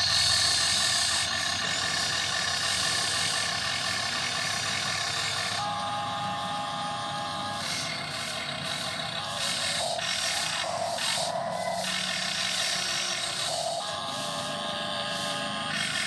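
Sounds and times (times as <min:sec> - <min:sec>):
model excavator motors whining: 0:00.0 - 0:16.0.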